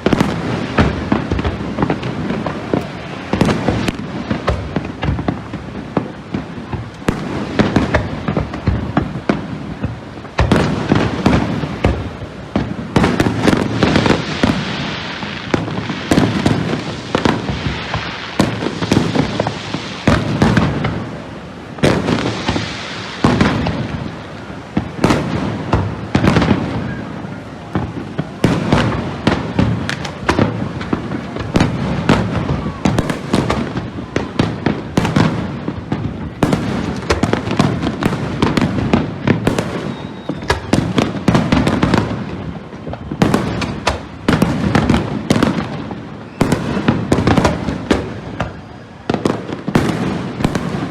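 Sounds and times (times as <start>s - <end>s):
fireworks bangs and booms: 0.0s - 50.9s
fireworks crackling: 0.0s - 50.9s.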